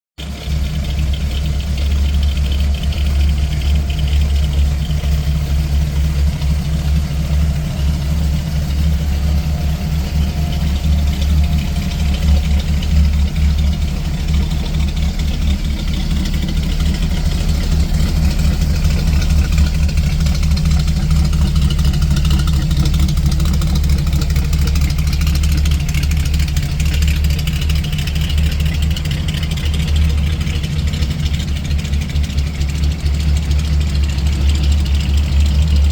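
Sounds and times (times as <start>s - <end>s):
engine idling deep rumble: 0.2s - 35.9s.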